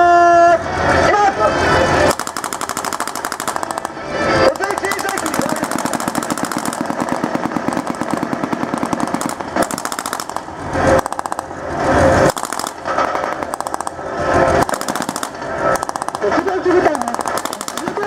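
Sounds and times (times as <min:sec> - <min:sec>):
rapid machine-gun fire: 0:02.1 - 0:18.0.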